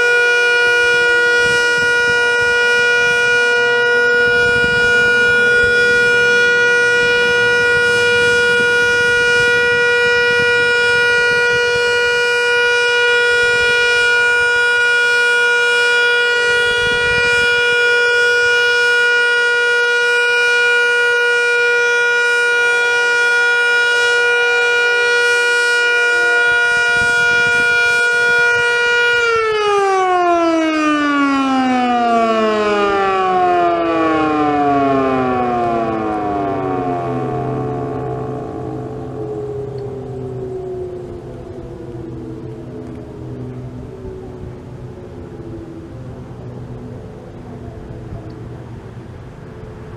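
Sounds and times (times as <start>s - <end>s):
outdoor warning siren: 0.0s - 49.9s.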